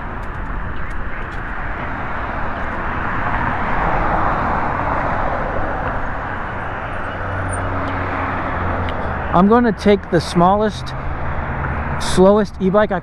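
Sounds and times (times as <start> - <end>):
road noise from bike riding: 0.0 - 13.0
rush of wind: 0.0 - 13.0.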